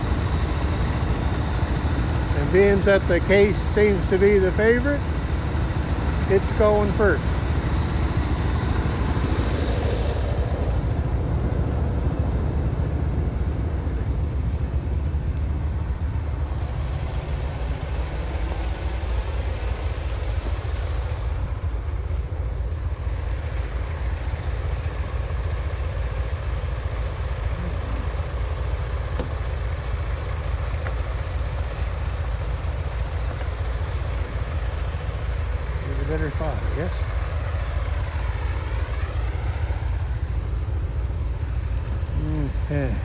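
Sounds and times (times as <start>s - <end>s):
tractor engines idling: 0.0s - 43.0s.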